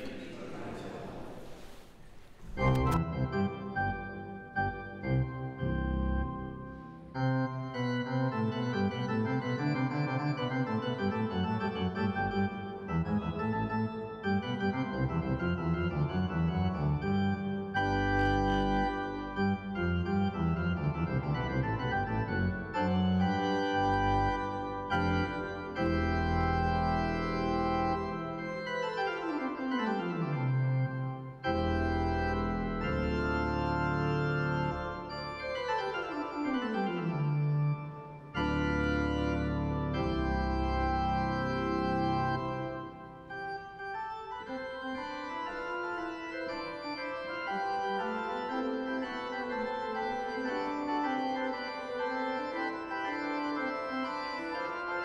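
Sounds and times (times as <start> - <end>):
church organ playing chords: 2.4 - 55.0.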